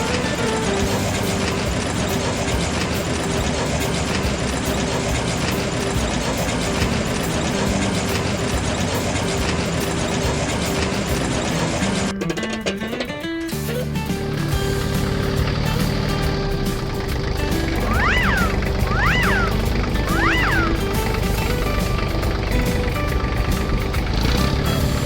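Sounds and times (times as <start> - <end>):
heavy engine running: 0.0 - 12.2, 13.6 - 25.0
mechanical rumble and clatter: 0.0 - 25.0.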